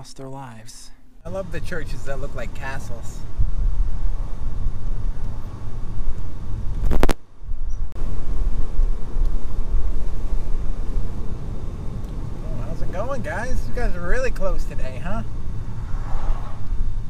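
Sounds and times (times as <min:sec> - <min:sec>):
car cabin road rumble: 0:01.2 - 0:17.0.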